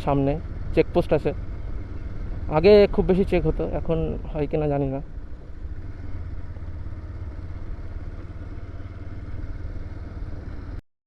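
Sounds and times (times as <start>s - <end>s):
motorcycle engine drone: 0.0s - 10.8s
road noise: 0.0s - 10.8s.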